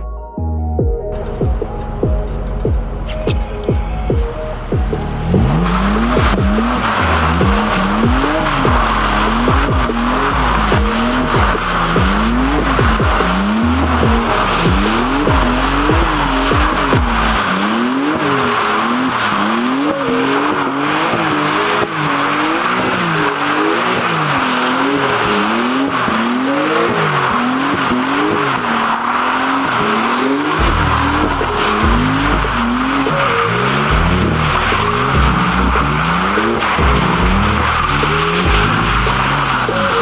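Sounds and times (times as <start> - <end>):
car engine revving: 1.1 - 40.0
tire squeal: 1.2 - 40.0.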